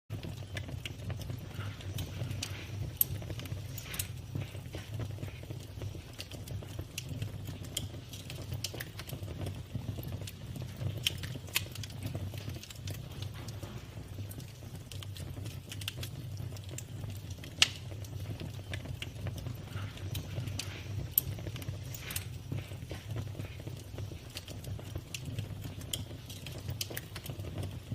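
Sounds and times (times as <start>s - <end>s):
campfire wood crackling: 0.1s - 27.9s
steady low rumble: 0.2s - 15.8s, 16.5s - 27.1s.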